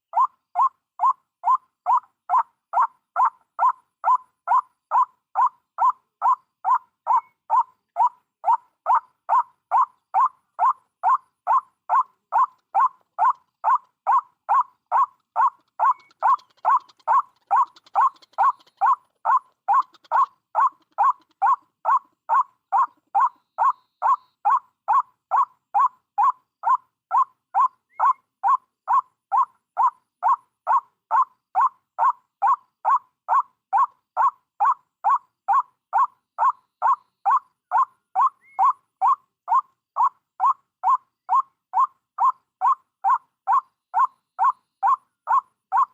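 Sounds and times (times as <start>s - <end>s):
repeated bird call: 0.0s - 45.9s.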